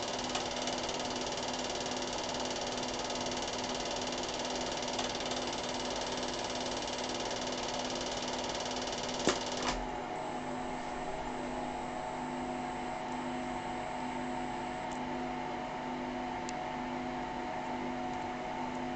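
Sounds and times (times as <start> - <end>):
mechanical hum with hiss: 0.0 - 18.9.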